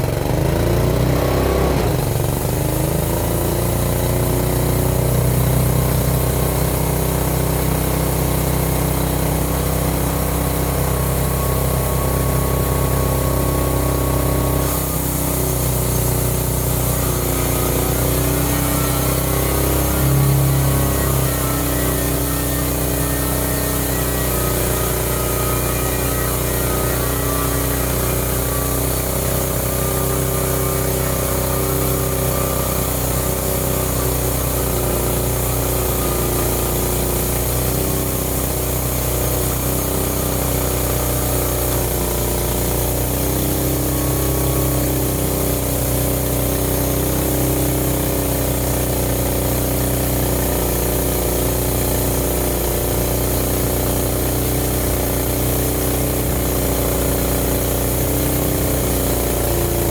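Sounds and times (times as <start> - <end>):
band sawmill engine running: 0.0 - 59.9.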